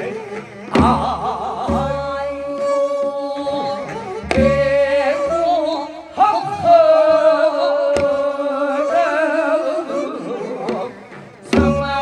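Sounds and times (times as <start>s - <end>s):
folk singing held vibrato note: 0.0s - 12.0s.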